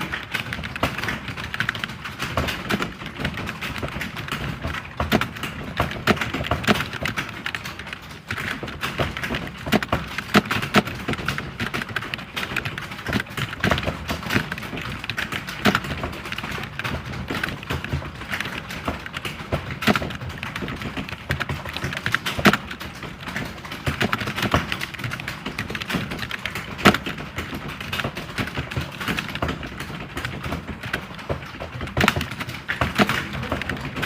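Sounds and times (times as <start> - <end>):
keyboard typing: 0.0 - 34.0.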